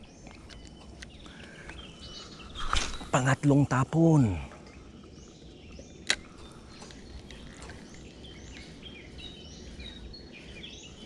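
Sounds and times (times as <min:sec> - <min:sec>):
low outdoor background: 0:00.0 - 0:11.0
small birds chirping: 0:00.0 - 0:11.0.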